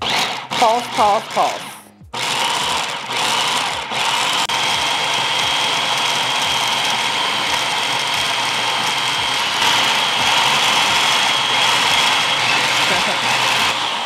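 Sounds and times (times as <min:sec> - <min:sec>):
food processor motor whine: 0:00.0 - 0:14.0.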